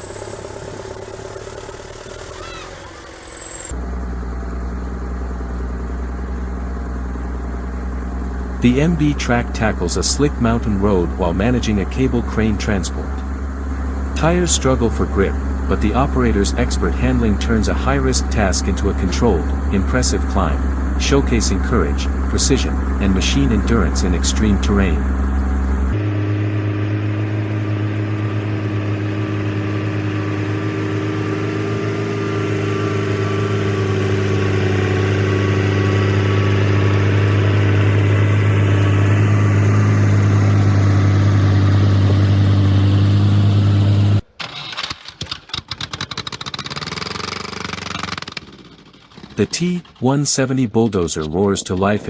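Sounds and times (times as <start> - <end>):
diesel truck engine running: 0.0 - 44.3
choppy engine clatter with knocks: 0.0 - 50.3.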